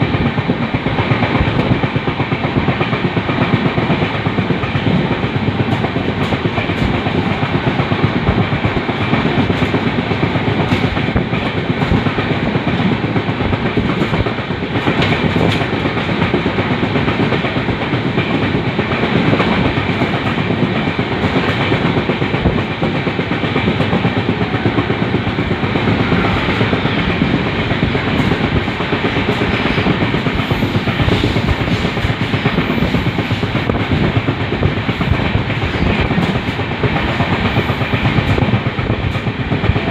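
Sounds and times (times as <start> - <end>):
train coach rumbling on rails: 0.0 - 39.9
wheels clicking over rails: 0.0 - 39.9.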